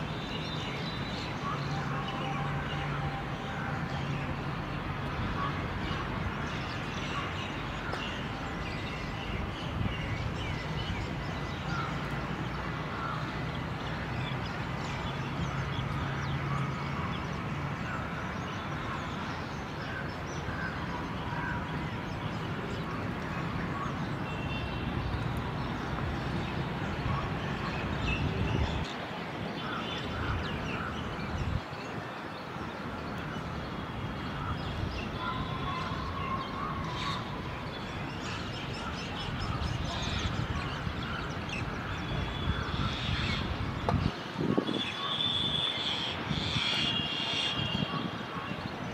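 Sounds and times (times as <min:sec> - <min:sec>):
bird calls and chirps: 0:00.0 - 0:48.9
outdoor background noise: 0:00.0 - 0:48.9.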